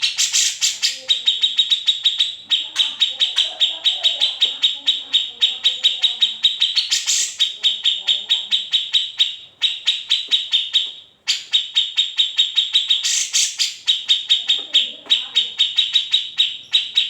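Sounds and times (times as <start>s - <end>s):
bird singing fast high trill: 0.0s - 17.0s.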